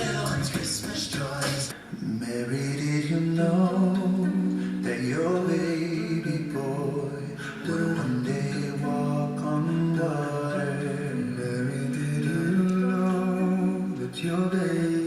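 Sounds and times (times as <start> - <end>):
voices singing harmonies: 0.0 - 15.0.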